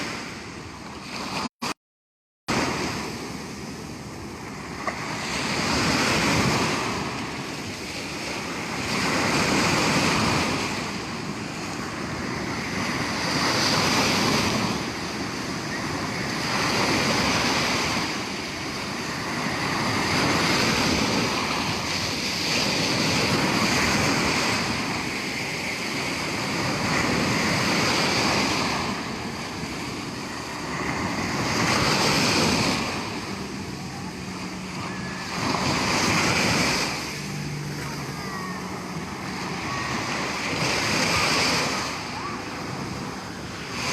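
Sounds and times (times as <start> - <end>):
waves breaking on shore: 0.0 - 1.8, 2.5 - 43.9.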